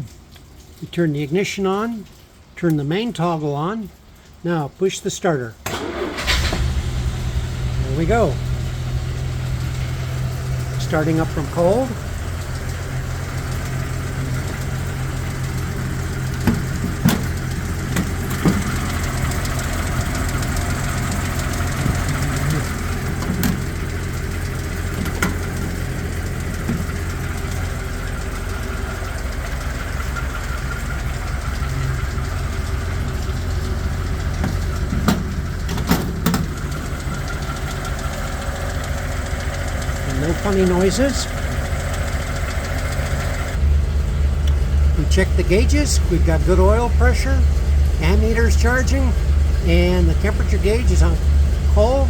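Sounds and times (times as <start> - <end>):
car engine idling: 5.6 - 52.0.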